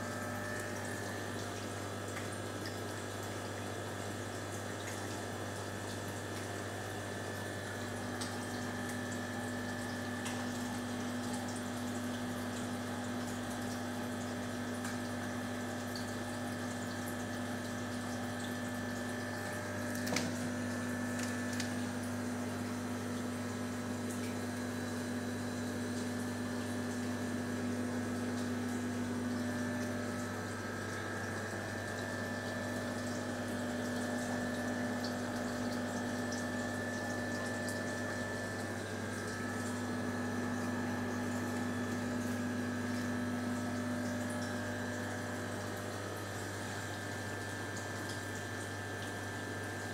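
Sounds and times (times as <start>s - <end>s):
aquarium filter pump humming: 0.0s - 49.9s
water splashing into tank: 0.1s - 49.9s.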